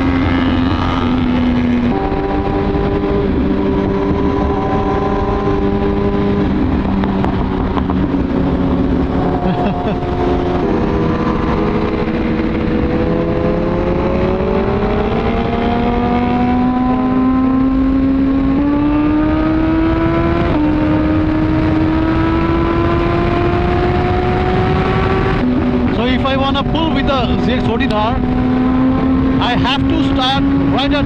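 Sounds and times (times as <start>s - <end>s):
wind rush: 0.0s - 31.0s.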